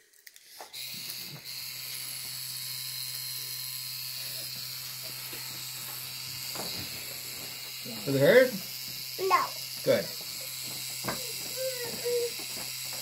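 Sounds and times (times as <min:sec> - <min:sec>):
tattoo machine buzzing: 0:00.7 - 0:13.0.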